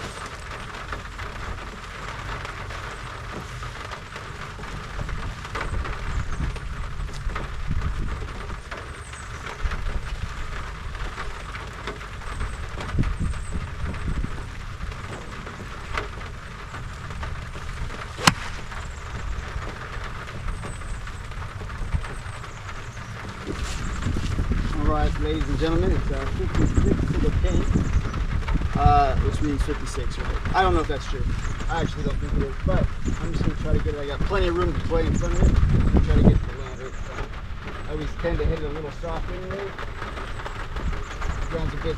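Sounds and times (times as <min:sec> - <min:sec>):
low rumble with hiss: 0:00.0 - 0:41.9.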